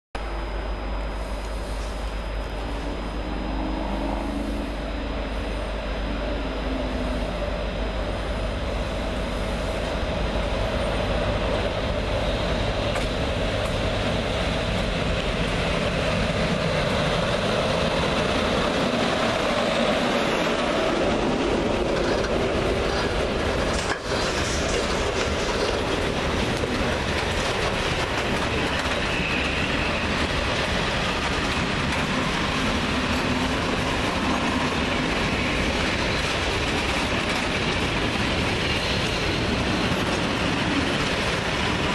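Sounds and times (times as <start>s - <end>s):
freight train passing: 0.2s - 41.9s
wheels running on rails: 6.8s - 41.9s.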